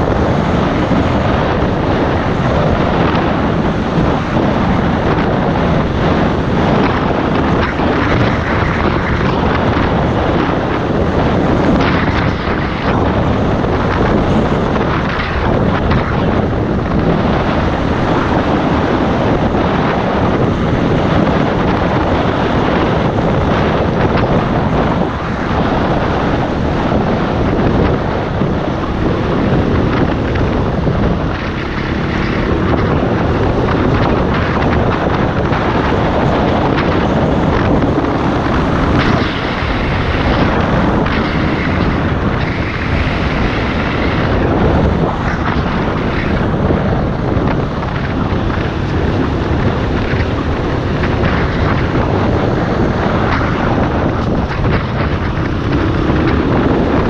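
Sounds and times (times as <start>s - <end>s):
dirt bike engine running: 0.0s - 57.0s
wind noise on microphone: 0.0s - 57.0s.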